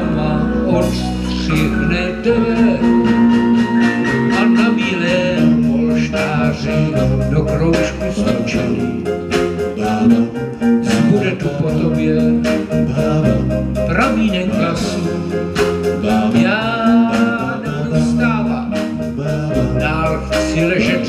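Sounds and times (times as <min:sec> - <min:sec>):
bass guitar: 0:00.0 - 0:21.0
drums keeping a steady beat: 0:00.0 - 0:21.0
keyboard: 0:00.0 - 0:21.0.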